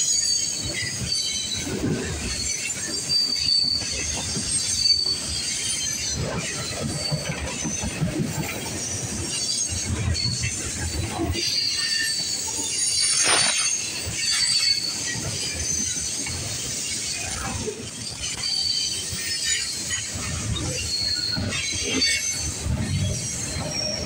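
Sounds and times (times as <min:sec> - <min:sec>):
freight train rumbling: 0:00.0 - 0:24.0
train cars knocking and rattling: 0:00.0 - 0:24.0
train wheels squealing: 0:00.0 - 0:24.0.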